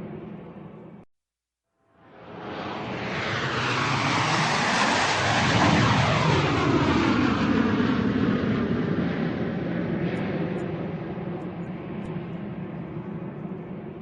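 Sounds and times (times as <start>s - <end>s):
airplane flying overhead: 0.0s - 1.0s, 2.0s - 14.0s.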